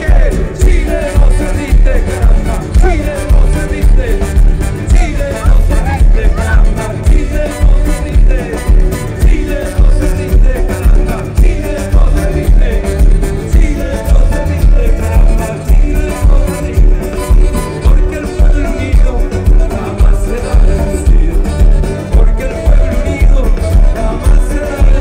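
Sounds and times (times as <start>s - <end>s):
acoustic and electric guitars: 0.0s - 25.0s
heavy low beat: 0.0s - 25.0s
man singing: 0.0s - 25.0s.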